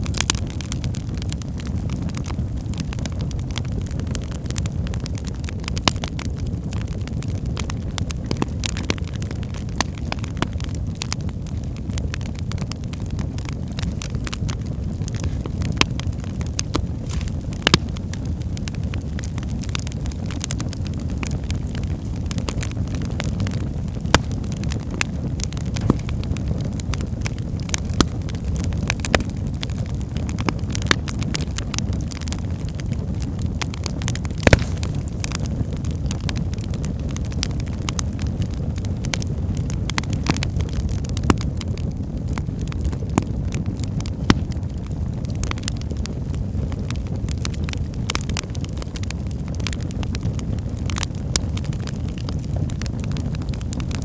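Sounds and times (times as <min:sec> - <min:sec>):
fire low rumble: 0:00.0 - 0:54.0
wood fire crackling and popping: 0:00.0 - 0:54.0.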